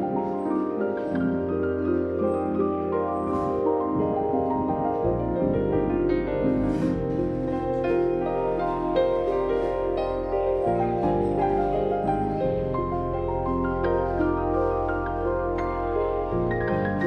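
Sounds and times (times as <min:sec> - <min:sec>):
gentle piano instrumental: 0:00.0 - 0:17.0.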